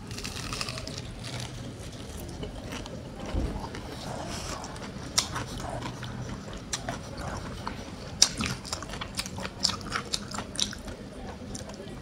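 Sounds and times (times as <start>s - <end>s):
man chewing crunchy fried chicken: 0.0s - 12.0s.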